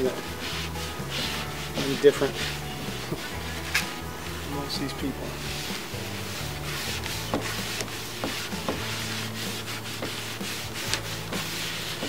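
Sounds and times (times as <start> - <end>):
applicator wiping on wood: 0.0 - 12.0.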